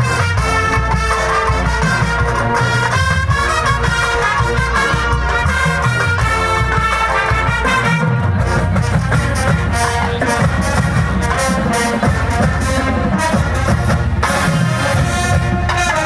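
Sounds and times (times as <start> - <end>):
drums: 0.0 - 16.0
marching band brass: 0.0 - 16.0.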